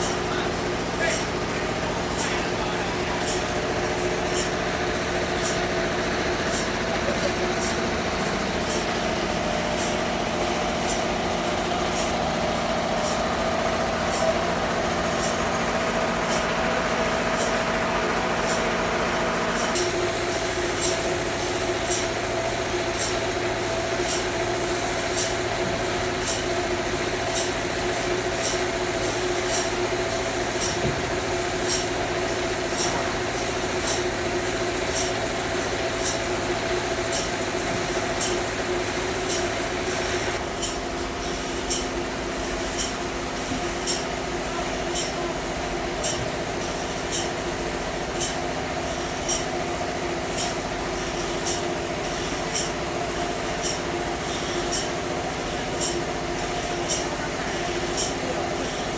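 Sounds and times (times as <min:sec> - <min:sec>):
sawmill machinery humming: 0:00.0 - 0:58.9.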